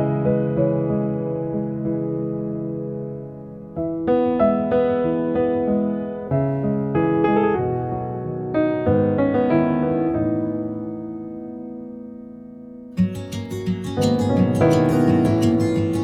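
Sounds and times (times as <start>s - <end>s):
soft slow piano melody: 0.0s - 16.0s.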